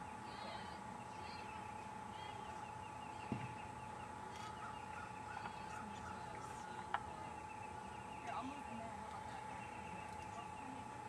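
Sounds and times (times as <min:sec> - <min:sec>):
faint birdsong: 0:00.0 - 0:11.0
high electrical hum: 0:00.0 - 0:11.0.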